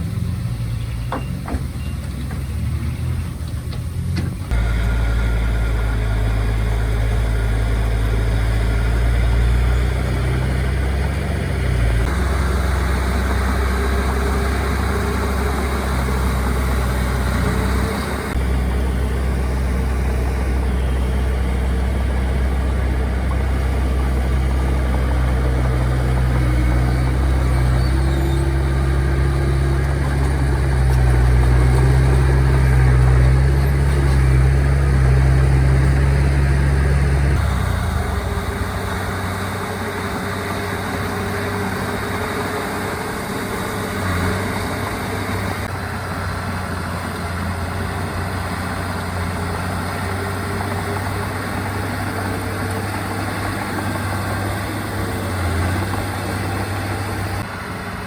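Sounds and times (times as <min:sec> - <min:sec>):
diesel machinery engines droning: 0:00.0 - 0:58.0.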